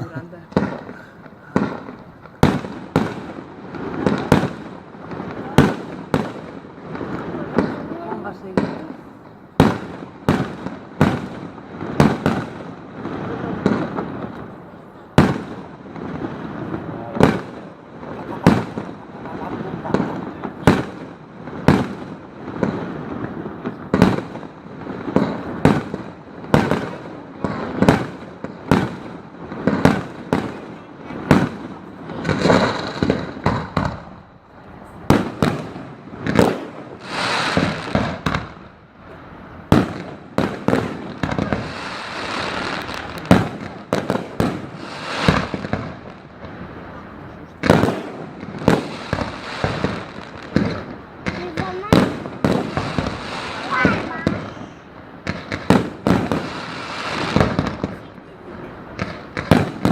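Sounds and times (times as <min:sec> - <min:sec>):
fireworks crackling and hissing: 0:00.0 - 0:59.9.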